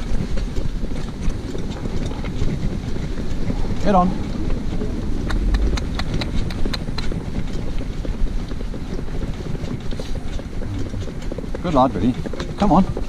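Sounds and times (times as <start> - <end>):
hooves clip-clopping on tarmac: 0.0 - 13.0
wind rumbling on microphone: 0.0 - 13.0.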